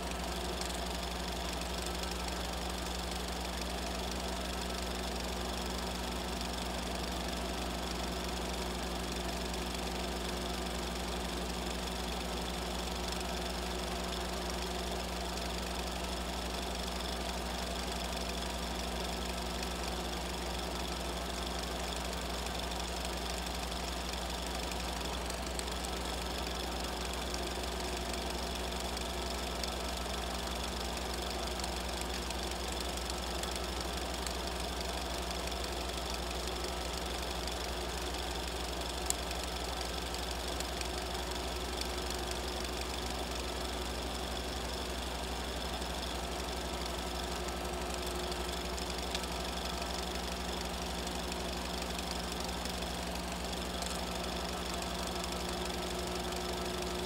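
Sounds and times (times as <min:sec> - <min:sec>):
film projector humming and whirring: 0:00.0 - 0:57.0.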